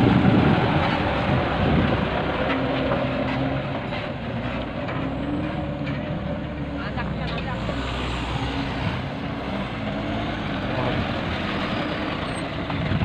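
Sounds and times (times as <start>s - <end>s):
diesel truck engine pulling away: 0.0s - 13.0s.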